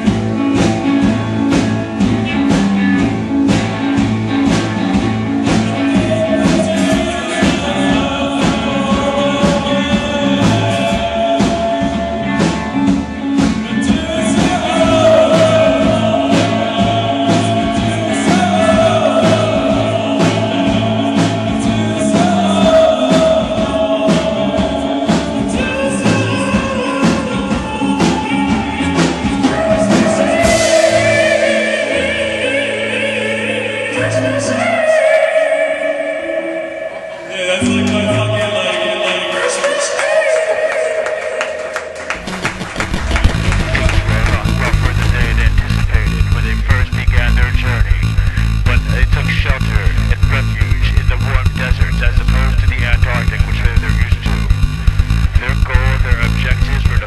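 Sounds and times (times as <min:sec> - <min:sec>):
drum kit beat: 0:00.0 - 0:31.6, 0:42.2 - 0:57.0
bass and guitar: 0:00.0 - 0:34.8, 0:42.0 - 0:57.0.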